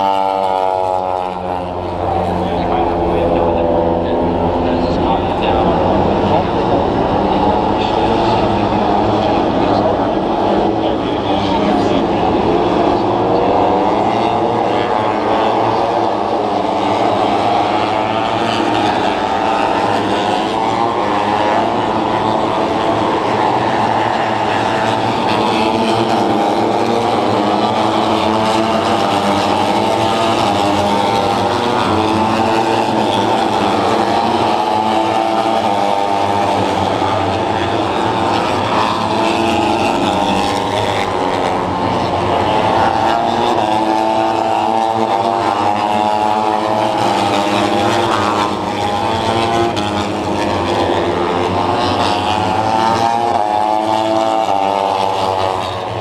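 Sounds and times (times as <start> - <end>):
racing motorcycle engines: 0.0 - 56.0.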